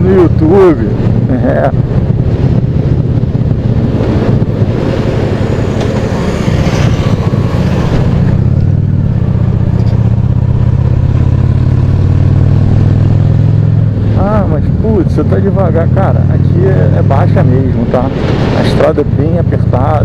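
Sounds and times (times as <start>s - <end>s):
motorcycle engine rumble: 0.0s - 20.0s
road noise: 0.0s - 20.0s
rushing wind: 0.0s - 20.0s.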